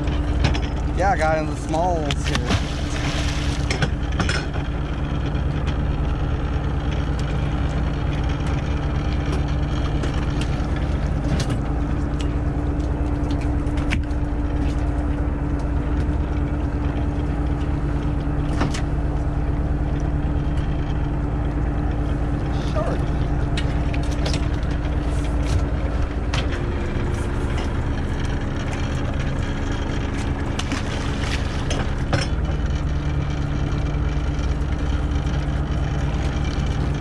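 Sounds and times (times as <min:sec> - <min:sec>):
boat engine humming: 0:00.0 - 0:37.0.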